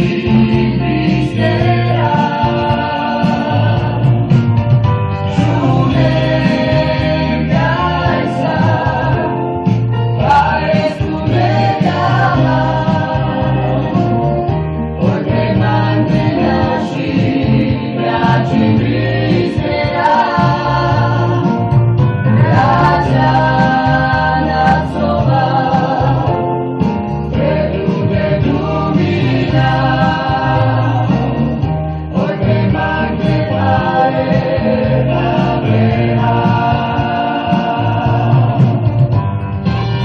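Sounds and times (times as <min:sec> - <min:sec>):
music with singing voices: 0:00.0 - 0:40.0.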